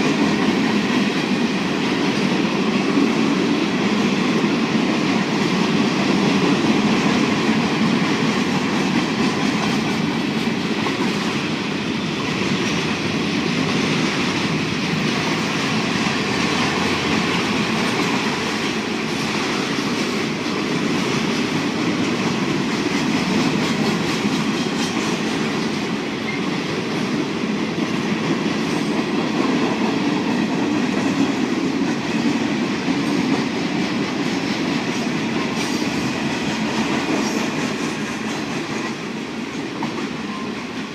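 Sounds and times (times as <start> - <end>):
train wheels rumbling and clacking: 0.0 - 40.9.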